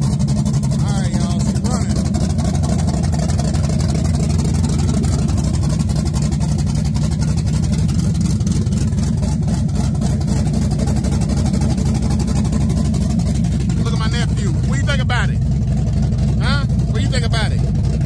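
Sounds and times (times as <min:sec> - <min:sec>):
vee eight engine idling: 0:00.0 - 0:18.0.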